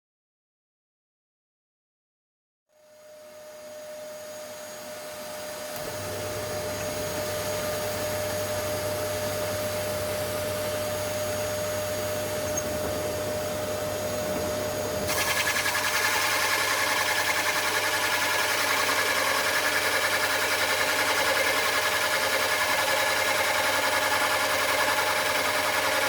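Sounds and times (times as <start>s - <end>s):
small electric motor whining: 3.6s - 26.0s.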